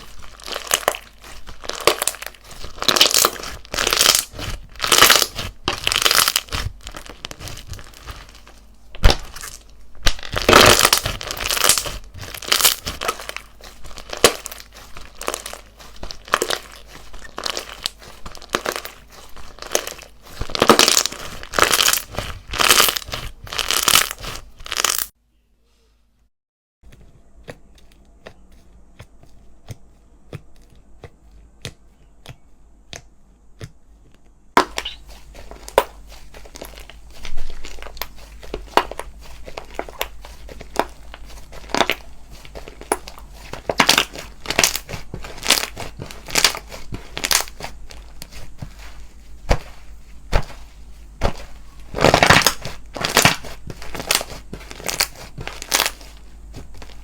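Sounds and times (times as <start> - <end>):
slime clicking and crackling: 0.0 - 25.1, 34.6 - 57.0.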